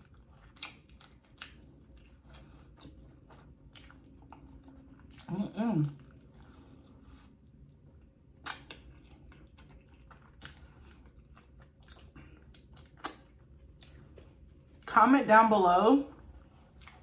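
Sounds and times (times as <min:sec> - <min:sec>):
person chewing: 0:00.0 - 0:14.9, 0:16.5 - 0:17.0.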